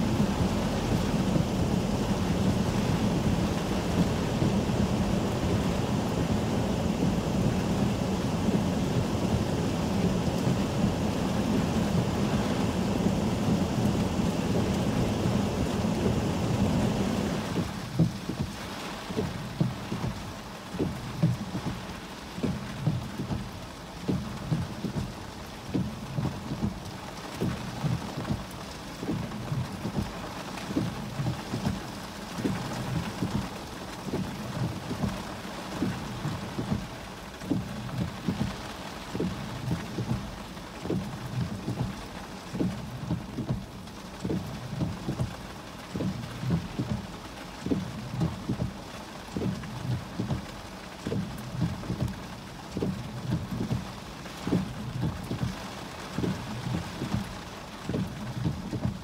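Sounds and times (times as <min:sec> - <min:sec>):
heavy rain on car roof: 0:00.0 - 0:59.0.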